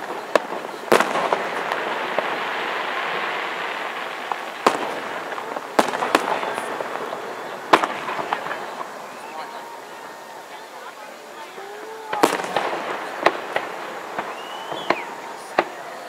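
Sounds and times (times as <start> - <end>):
firework shell bursts: 0.0 - 10.1, 12.0 - 16.0
firework crackling: 0.0 - 16.0.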